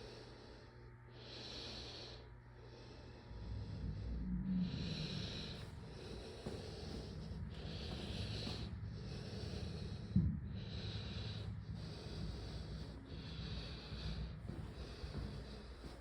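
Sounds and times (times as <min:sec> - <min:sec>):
heavy breathing: 0:00.0 - 0:16.0
low rumble: 0:03.1 - 0:16.0.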